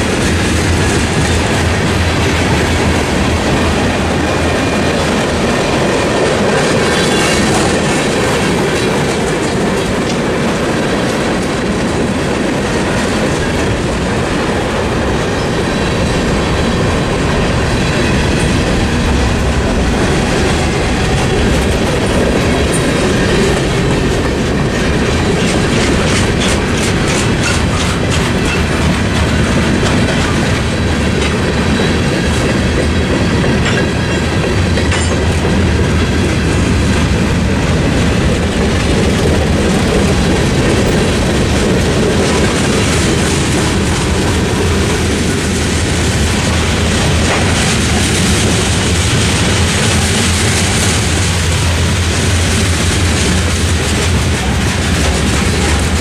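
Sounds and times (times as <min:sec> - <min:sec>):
clickety-clack over rail joints: 0:00.0 - 0:56.0
train wheels rumbling on rail: 0:00.0 - 0:56.0.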